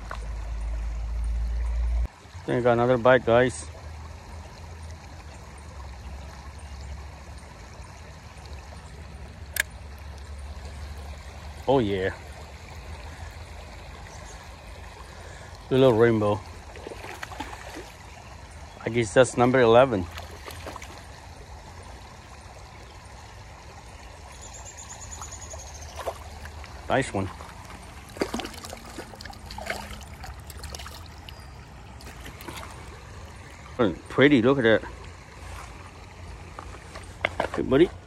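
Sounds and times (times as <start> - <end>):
creek water running: 0.0 - 38.0.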